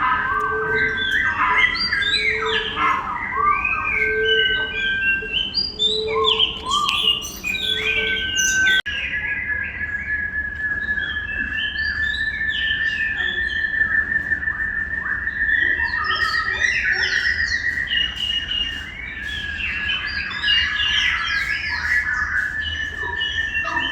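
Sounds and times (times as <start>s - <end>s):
birds chirping: 0.0s - 23.9s
high whistling tone: 0.0s - 23.9s.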